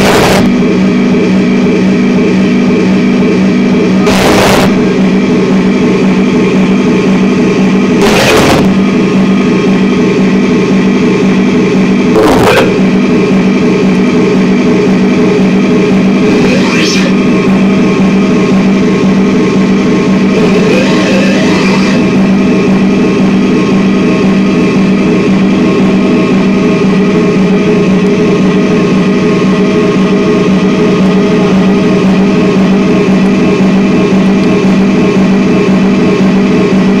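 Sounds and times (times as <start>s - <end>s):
dense electronic noise drone: 0.0s - 37.0s.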